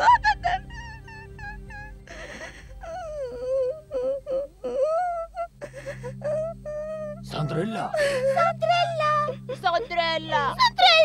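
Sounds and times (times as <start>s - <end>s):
girl crying: 0.0s - 11.0s.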